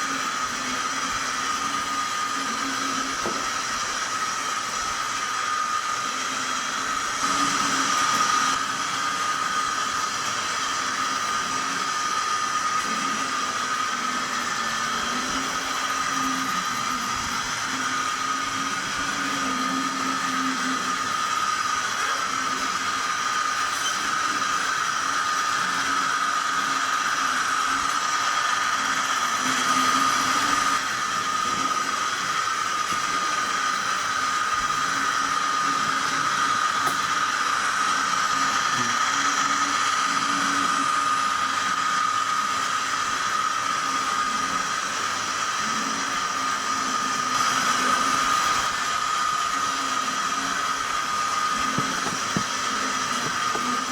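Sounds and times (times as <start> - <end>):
model locomotive engine sound: 0.0 - 53.9.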